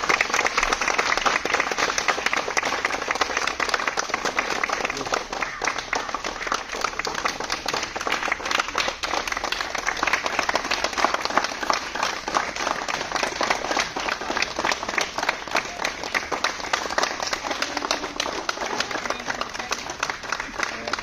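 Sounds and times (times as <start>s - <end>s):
group of people clapping: 0.0s - 21.0s.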